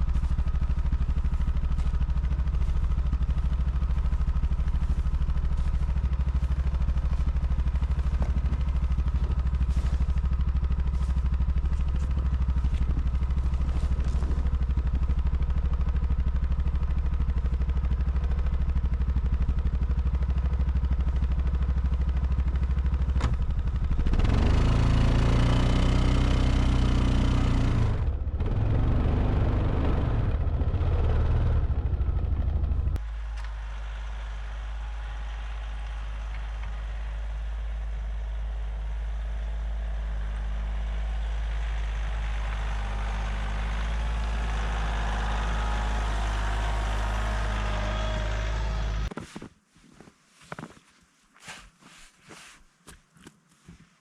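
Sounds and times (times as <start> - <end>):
engine running and revving: 0.0 - 49.2.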